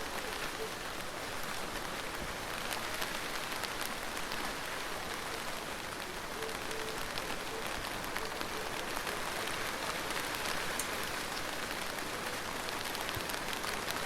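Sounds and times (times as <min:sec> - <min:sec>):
raindrops ticking on a surface: 0:00.0 - 0:14.0
steady rain hiss: 0:00.0 - 0:14.0.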